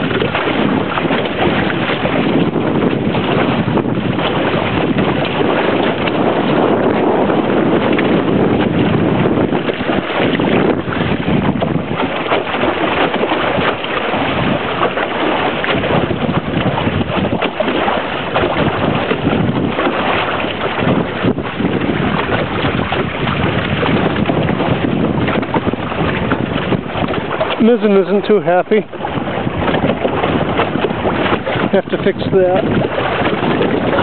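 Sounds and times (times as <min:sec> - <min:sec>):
water rushing past hull: 0:00.0 - 0:34.0
wind buffeting microphone: 0:00.0 - 0:34.0.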